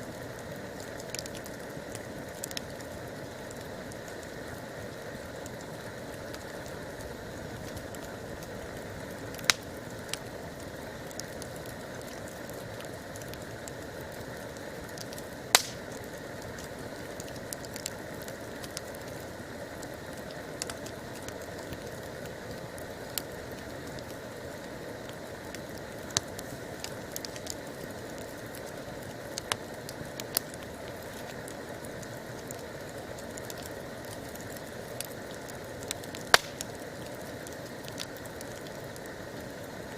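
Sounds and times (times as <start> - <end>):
campfire hissing: 0.0 - 39.9
fire crackles and pops: 0.0 - 39.9.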